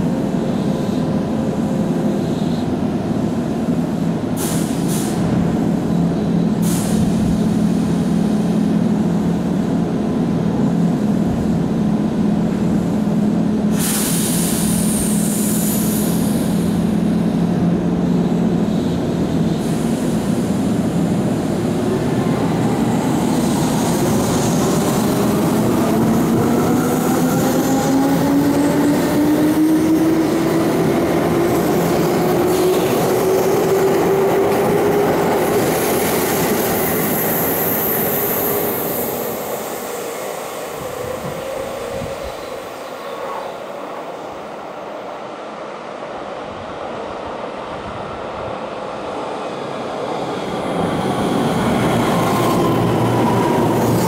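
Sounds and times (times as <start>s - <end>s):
train drawing in: 0.0s - 54.0s
train wheels rumbling on rails: 0.0s - 54.0s.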